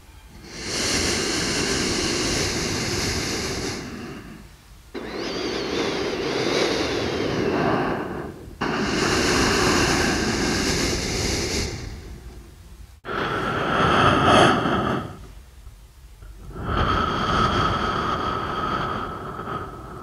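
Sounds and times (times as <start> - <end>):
breathing through the nose: 0.3 - 15.4, 16.2 - 20.0.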